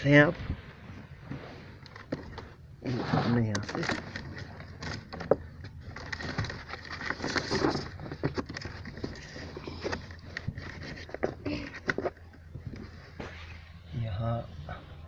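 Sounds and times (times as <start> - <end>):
wiring rustling and scraping: 0.4 - 14.0.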